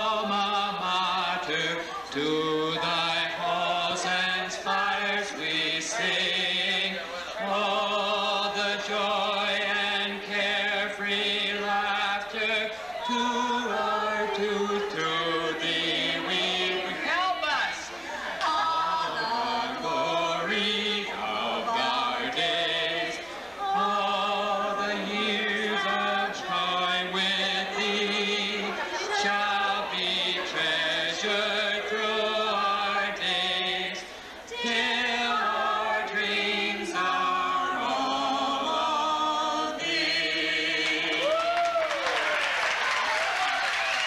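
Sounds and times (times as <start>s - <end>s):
group singing into microphone: 0.0s - 41.4s.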